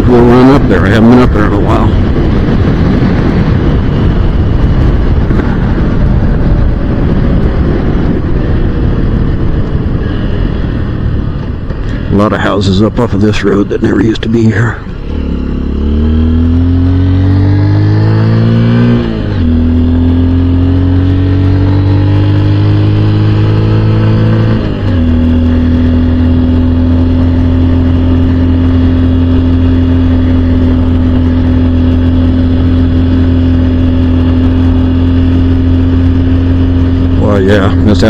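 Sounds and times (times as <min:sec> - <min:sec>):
motorcycle engine straining uphill: 0:00.0 - 0:38.0.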